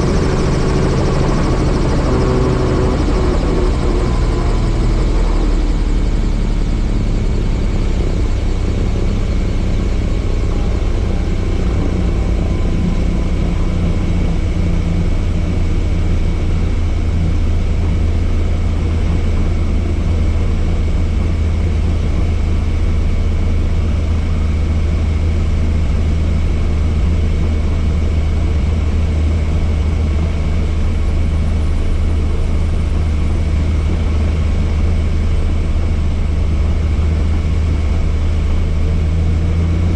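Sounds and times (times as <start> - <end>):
helicopter rotor and engine drone: 0.0 - 39.9
high whine: 0.0 - 39.9.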